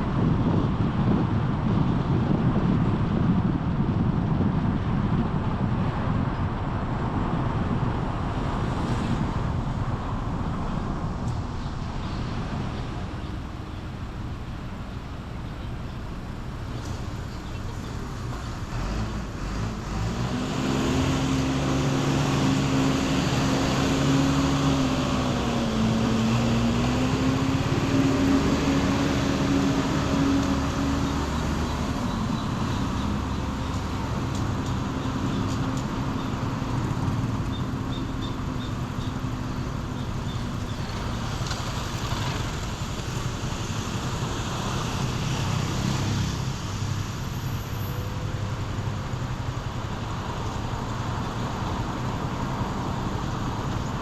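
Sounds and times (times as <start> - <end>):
road traffic noise: 0.0 - 54.0
vehicle engine hum: 0.0 - 54.0.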